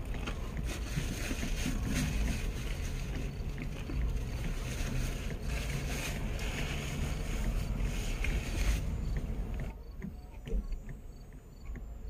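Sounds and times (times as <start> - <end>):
truck rumble with faint hum: 0.0 - 12.0.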